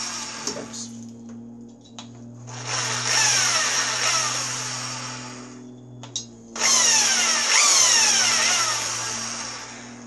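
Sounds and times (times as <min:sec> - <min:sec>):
electric drill motor whine: 0:00.0 - 0:01.1, 0:02.0 - 0:10.0.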